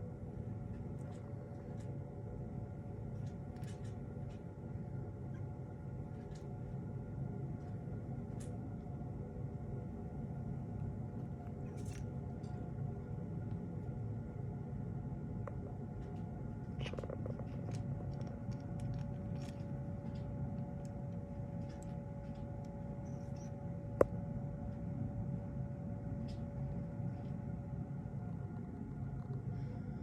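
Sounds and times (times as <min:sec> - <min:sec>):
faint steady tone: 0:00.0 - 0:30.0
steady low hum: 0:00.0 - 0:30.0.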